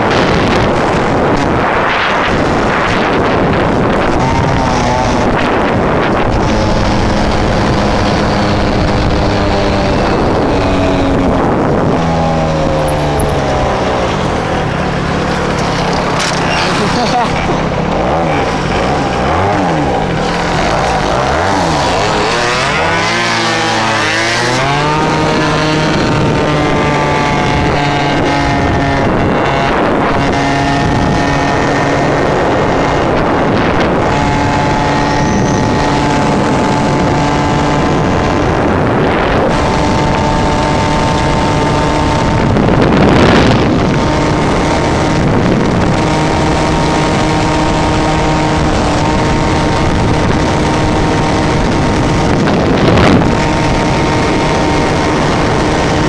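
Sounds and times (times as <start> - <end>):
two-stroke scooter engine revving: 0.0 - 56.0
wind on microphone: 0.0 - 56.0.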